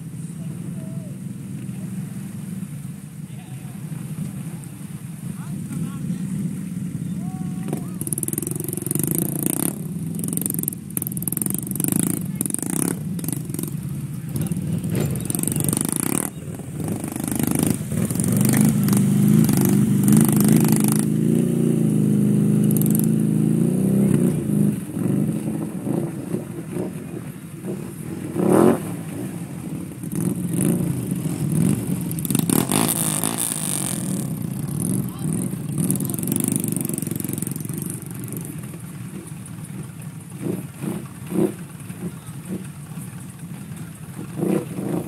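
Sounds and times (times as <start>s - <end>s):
atv engines revving: 0.0s - 45.0s
vehicles wading through water: 0.0s - 45.0s.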